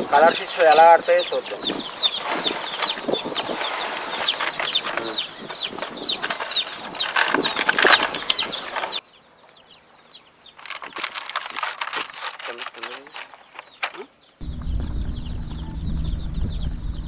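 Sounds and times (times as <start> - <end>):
baby chicks peeping: 0.1 - 11.0, 12.8 - 17.0.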